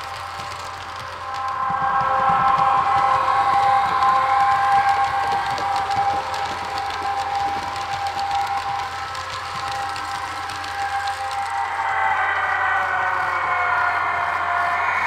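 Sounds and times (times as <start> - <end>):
model train wheels clicking: 0.0 - 14.8.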